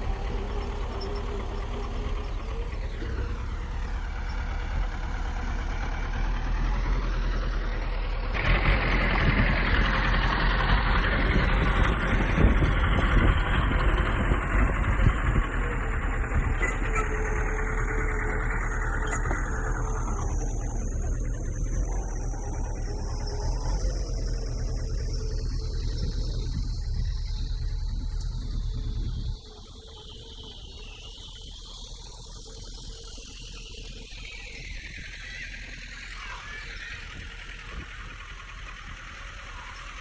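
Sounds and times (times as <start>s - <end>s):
heavy diesel engine rumbling: 0.0s - 40.0s.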